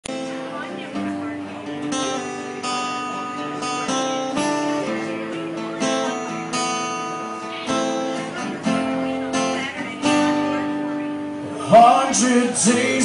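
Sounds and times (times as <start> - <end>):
acoustic guitar strumming: 0.1 - 13.0.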